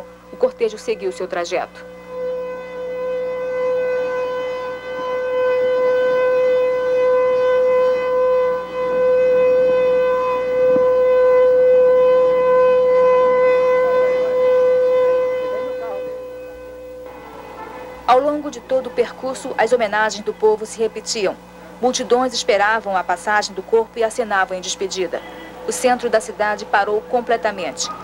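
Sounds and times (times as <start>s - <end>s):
siren long steady tone: 0.0s - 28.0s.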